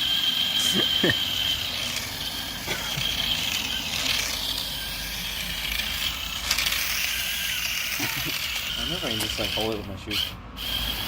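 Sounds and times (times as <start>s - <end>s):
toy car electric motor whining: 0.0s - 11.0s
wheel hubs scraping ground: 0.0s - 11.0s.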